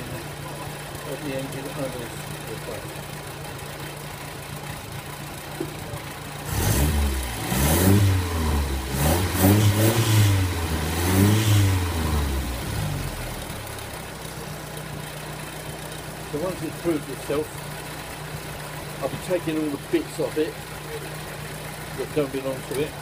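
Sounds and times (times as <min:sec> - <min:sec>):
engine idling and revving: 0:00.0 - 0:23.0.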